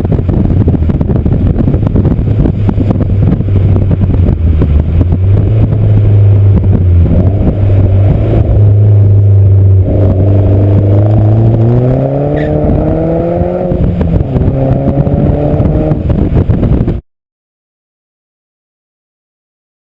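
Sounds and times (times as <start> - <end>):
car engine revving: 0.2 - 16.8.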